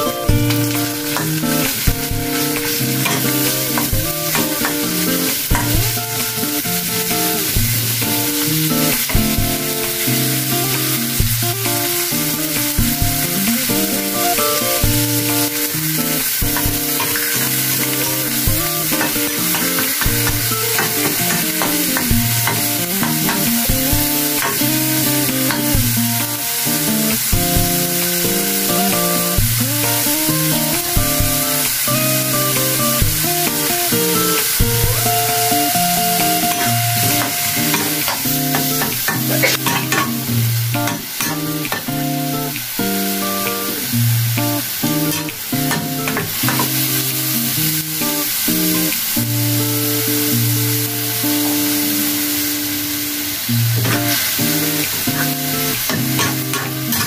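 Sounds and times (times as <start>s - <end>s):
meat sizzling in a wok: 0.0s - 57.0s.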